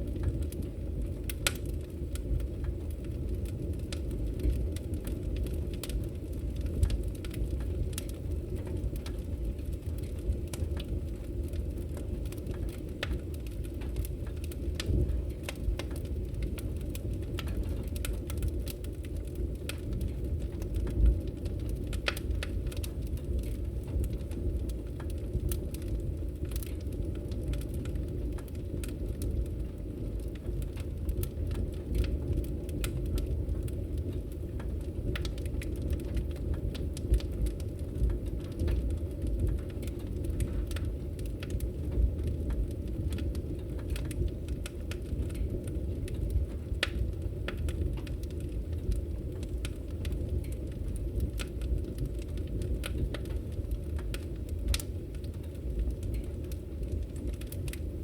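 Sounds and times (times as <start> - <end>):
fire crackling and popping: 0.0 - 58.0
fire rumbling in a fireplace: 0.0 - 58.0.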